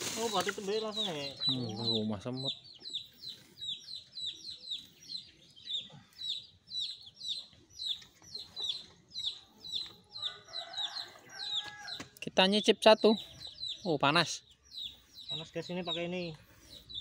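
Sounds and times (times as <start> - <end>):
chick peeping: 0.2 - 17.0.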